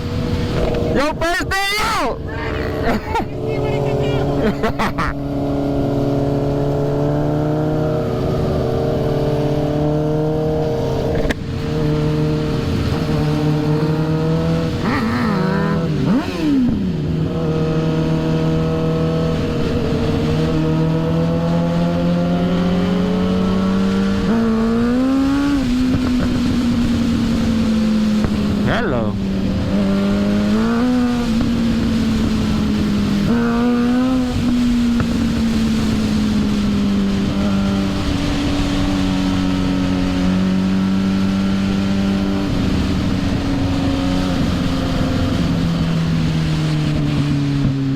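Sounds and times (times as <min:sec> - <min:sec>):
motorcycle engine running: 0:00.0 - 0:01.2, 0:02.0 - 0:47.9.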